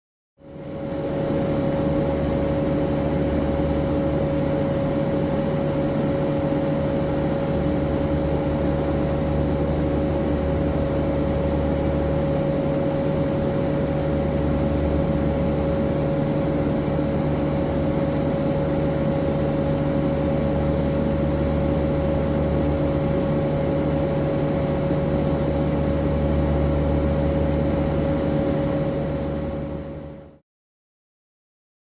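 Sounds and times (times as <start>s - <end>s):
turboprop engines droning: 0.4s - 30.4s.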